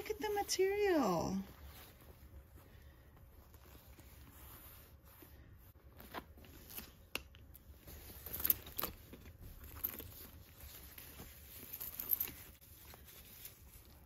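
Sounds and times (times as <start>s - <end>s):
tissue paper rustling: 0.0s - 14.0s.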